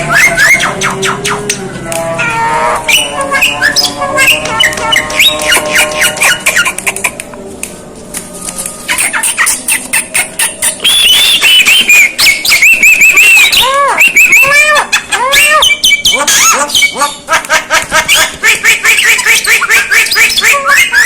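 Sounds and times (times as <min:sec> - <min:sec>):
myna whistling and clicking: 0:00.0 - 0:02.0, 0:02.8 - 0:07.3, 0:08.6 - 0:21.0.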